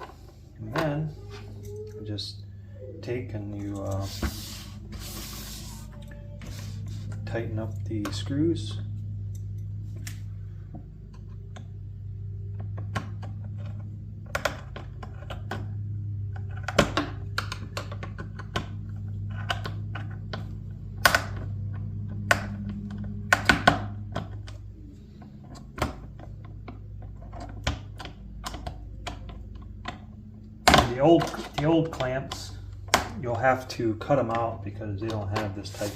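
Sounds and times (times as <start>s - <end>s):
low steady hum: 0.0s - 35.9s.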